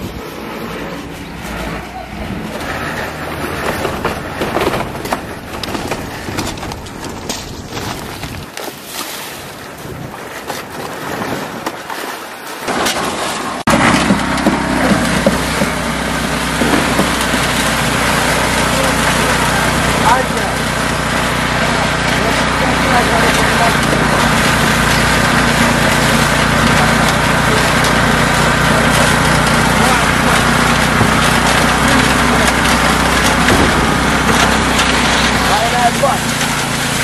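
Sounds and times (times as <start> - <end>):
concrete mixer engine running: 0.0 - 8.5, 12.7 - 37.0
knocks and clatter: 2.4 - 8.5, 12.7 - 37.0.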